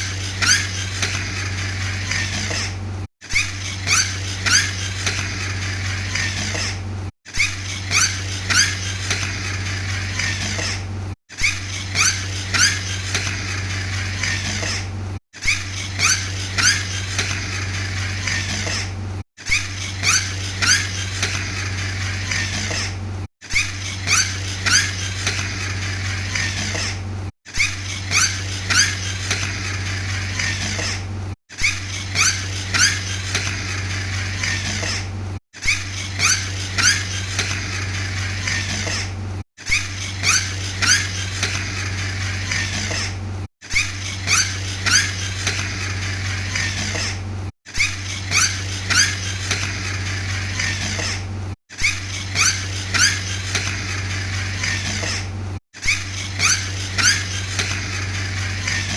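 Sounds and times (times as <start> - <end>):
toy flywheel gears whirring: 0.0 - 58.9.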